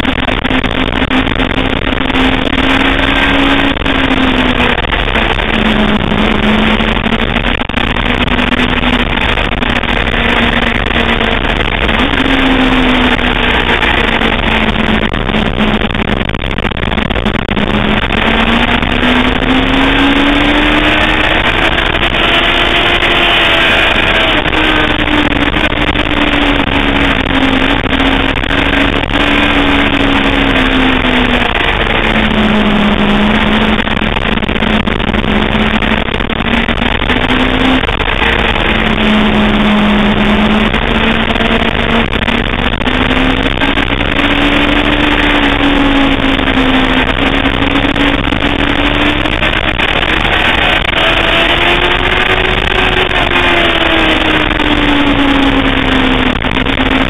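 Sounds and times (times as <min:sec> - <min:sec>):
motorcycle engine revving: 0:00.0 - 0:57.0
wind rush: 0:00.0 - 0:57.0.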